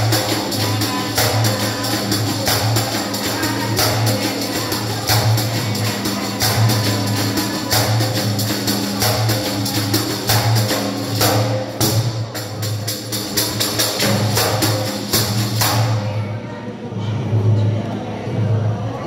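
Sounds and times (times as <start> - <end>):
frame drum beaten by hand: 0.0 - 16.3.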